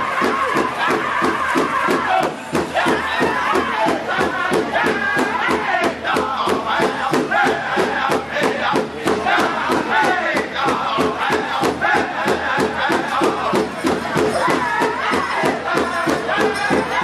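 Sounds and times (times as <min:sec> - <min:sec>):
group singing in high voices: 0:00.0 - 0:17.0
large drum beat: 0:00.0 - 0:17.0.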